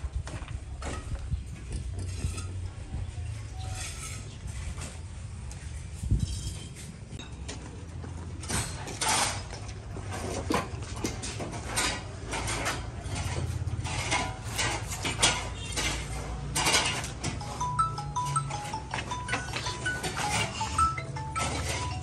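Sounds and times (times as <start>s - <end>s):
clinks knocks and scrapes: 0.4s - 5.1s, 5.9s - 22.0s.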